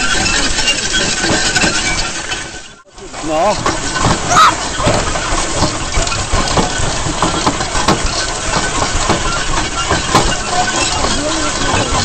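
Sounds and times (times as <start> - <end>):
vehicle engine: 0.0 - 12.0.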